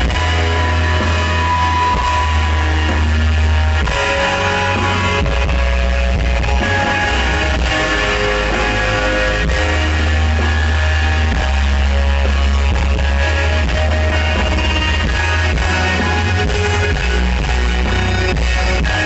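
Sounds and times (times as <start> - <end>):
electric guitar notes: 0.0 - 19.0
heavy bass: 0.0 - 19.0.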